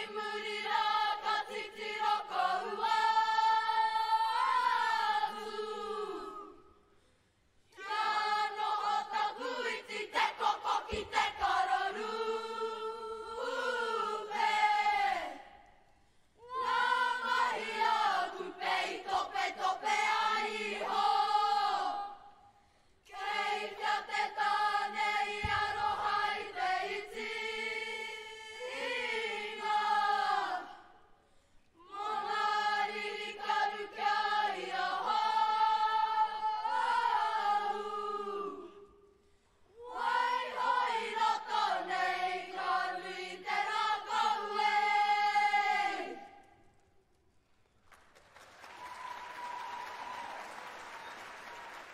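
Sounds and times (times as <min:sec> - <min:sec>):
young voices chanting in unison: 0:00.0 - 0:06.6, 0:07.7 - 0:15.6, 0:16.4 - 0:22.4, 0:23.1 - 0:31.0, 0:31.8 - 0:38.8, 0:39.8 - 0:46.4.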